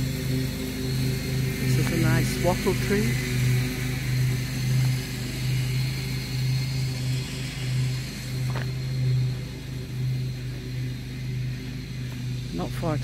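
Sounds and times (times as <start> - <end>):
low motor drone: 0.0 - 13.0.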